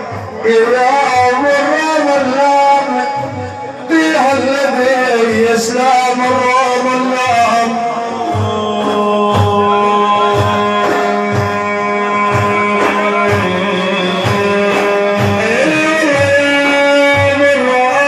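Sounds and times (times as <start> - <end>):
steady drum beat: 0.0 - 18.0.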